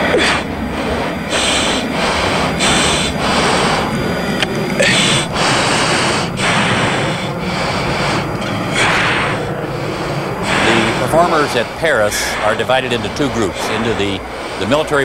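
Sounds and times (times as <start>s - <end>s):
cockpit rumble: 0.0s - 15.0s
hissing breaths in oxygen mask: 0.0s - 15.0s.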